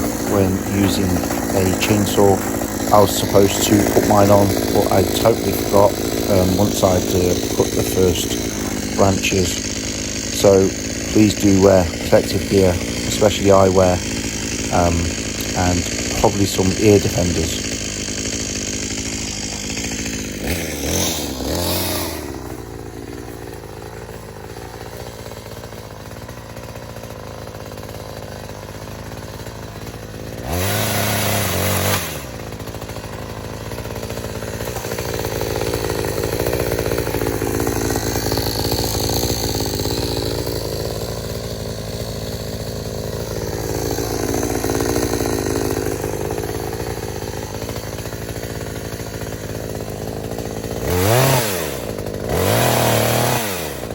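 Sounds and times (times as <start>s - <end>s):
chainsaw cutting wood: 0.0s - 53.9s
chainsaw idling and revving: 0.0s - 53.9s.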